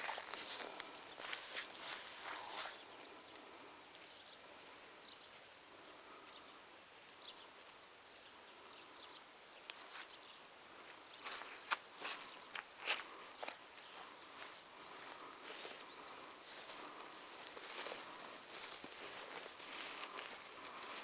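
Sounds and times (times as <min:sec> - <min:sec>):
distant bird chirps: 0:00.0 - 0:21.0
faint outdoor hiss: 0:00.0 - 0:21.0.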